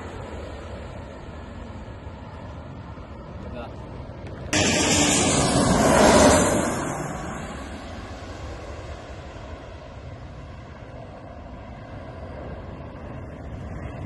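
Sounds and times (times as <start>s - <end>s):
jet engines passing overhead: 0.0s - 14.0s.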